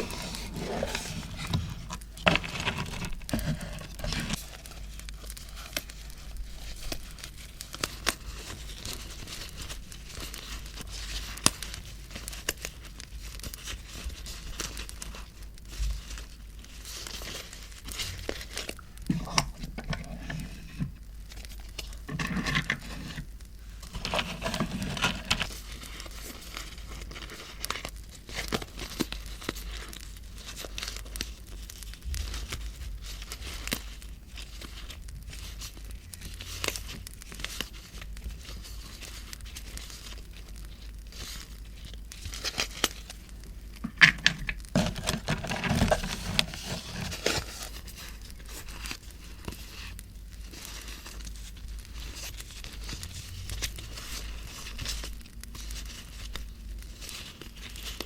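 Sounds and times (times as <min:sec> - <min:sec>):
paper and packaging crinkling: 0:00.0 - 0:58.0.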